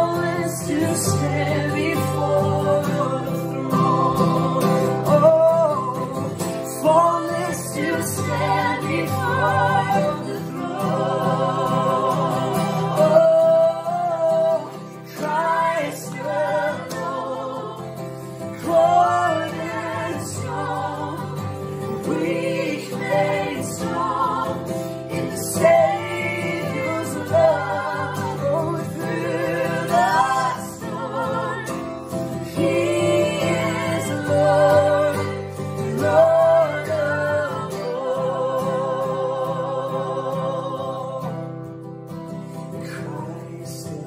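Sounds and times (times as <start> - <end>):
man and women singing together: 0.0 - 41.6, 42.5 - 44.0
strummed acoustic guitar: 0.0 - 44.0.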